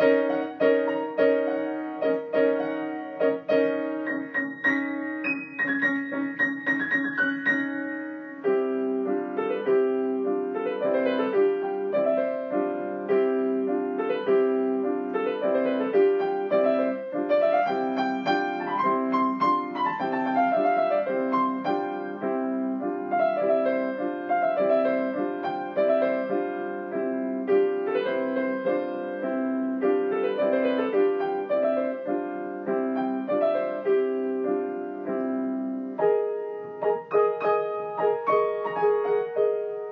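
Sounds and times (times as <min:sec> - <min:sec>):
solo piano improvisation: 0:00.0 - 0:39.9.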